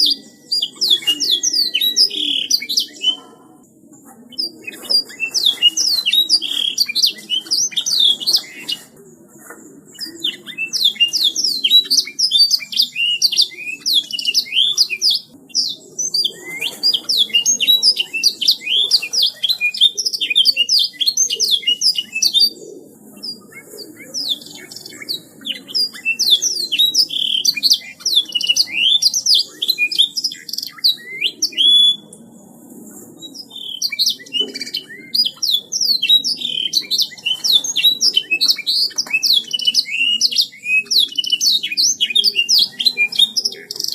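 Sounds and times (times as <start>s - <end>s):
canary singing chirps and trills: 0.0s - 9.0s, 9.6s - 32.2s, 33.2s - 43.9s.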